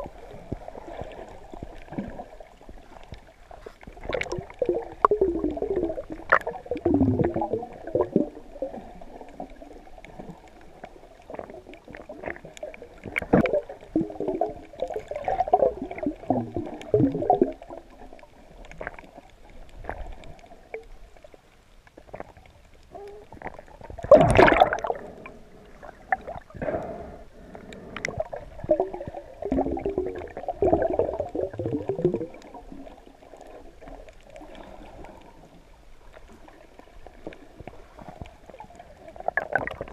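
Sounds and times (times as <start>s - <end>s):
underwater gurgling and bubbling: 0.0s - 39.9s.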